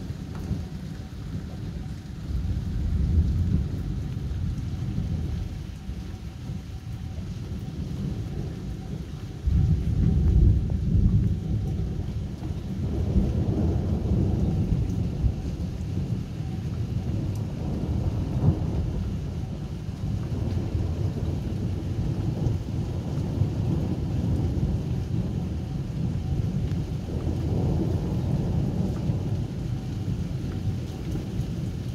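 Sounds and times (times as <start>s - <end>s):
rain falling: 0.0s - 31.9s
thunder rumbling: 0.0s - 31.9s.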